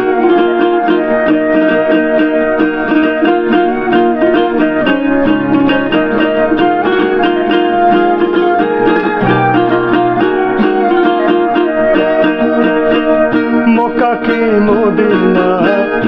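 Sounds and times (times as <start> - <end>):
bamboo flute melody: 0.0 - 16.0
keyboard accompaniment: 0.0 - 16.0
strummed acoustic guitar: 0.0 - 16.0
ukulele: 0.0 - 16.0.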